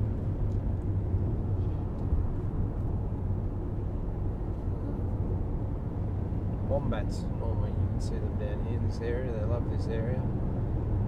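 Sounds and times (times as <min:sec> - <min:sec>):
car cabin road drone: 0:00.0 - 0:11.0.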